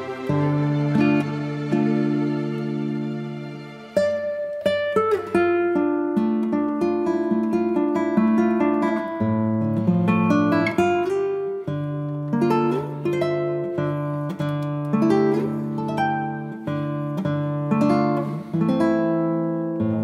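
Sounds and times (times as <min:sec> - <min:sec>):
plucked acoustic guitar: 0:00.0 - 0:20.0.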